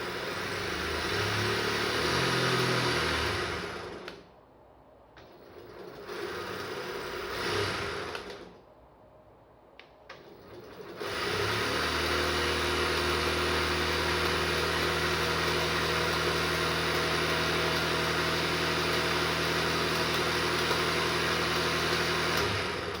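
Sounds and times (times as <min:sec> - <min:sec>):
gearbox spun by electric motor: 0:00.0 - 0:04.1, 0:05.9 - 0:08.5, 0:10.9 - 0:23.0.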